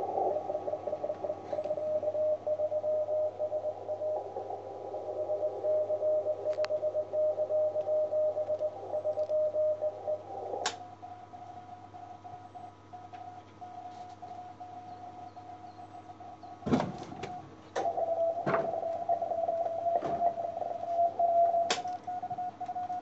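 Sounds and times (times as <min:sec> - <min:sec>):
morse code tone: 0:00.0 - 0:16.4, 0:17.8 - 0:23.0.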